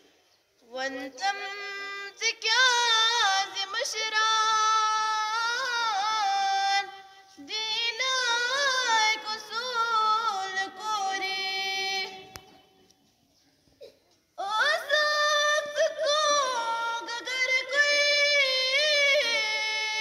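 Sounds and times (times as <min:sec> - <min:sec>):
girl singing unaccompanied: 0:00.6 - 0:12.7, 0:14.4 - 0:20.0.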